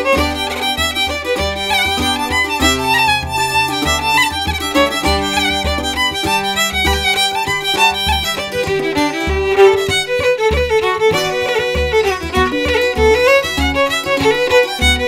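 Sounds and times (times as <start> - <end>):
fiddle playing quick melody: 0.0 - 15.0
frame drum beats: 0.0 - 15.0
strummed string chords: 0.0 - 15.0.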